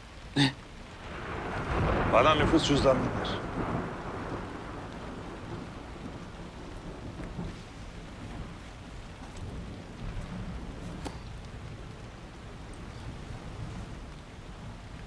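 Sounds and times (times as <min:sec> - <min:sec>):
steady rain falling: 0:00.0 - 0:15.0
low rumble of thunder: 0:00.8 - 0:15.0.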